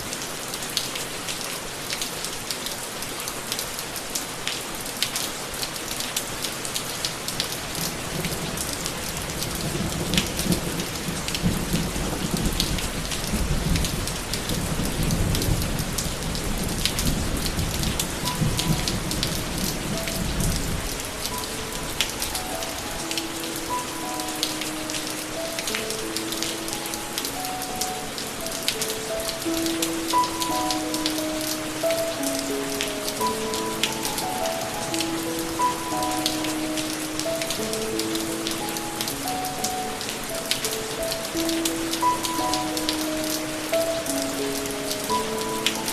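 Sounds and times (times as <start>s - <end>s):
steady rain pattering: 0.0s - 45.9s
soft melodic music: 6.0s - 45.9s.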